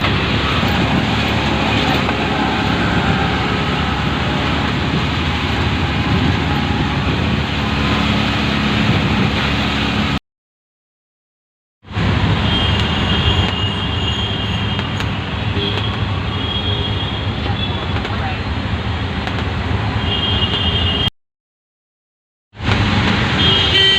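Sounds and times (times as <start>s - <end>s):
road and traffic noise: 0.0s - 10.2s, 11.8s - 21.2s, 22.5s - 23.9s.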